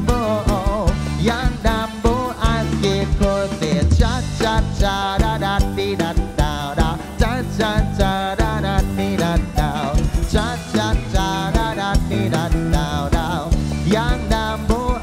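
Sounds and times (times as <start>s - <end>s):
lead melody line: 0.0s - 15.0s
live band playing: 0.0s - 15.0s.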